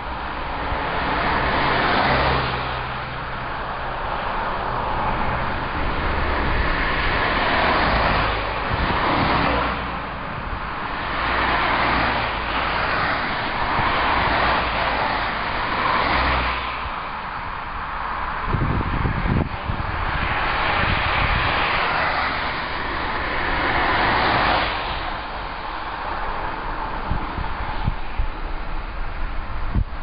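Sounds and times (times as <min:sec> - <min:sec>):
cars passing tyre noise: 0:00.0 - 0:30.0.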